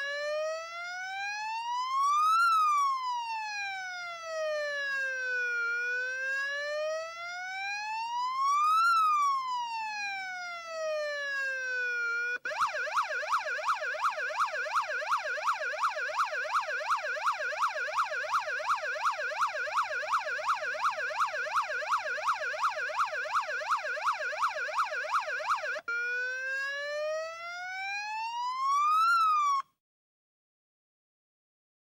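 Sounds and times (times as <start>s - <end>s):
police siren wail and yelp: 0.0s - 29.8s.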